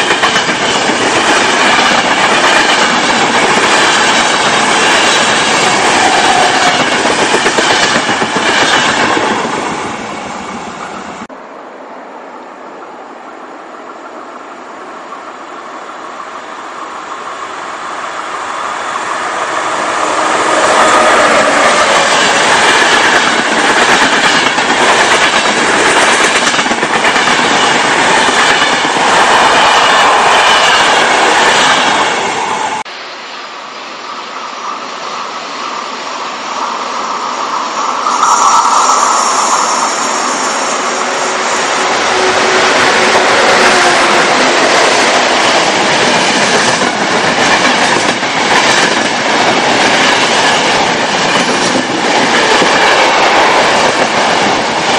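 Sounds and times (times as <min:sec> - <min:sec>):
train passing: 0:00.0 - 0:54.9.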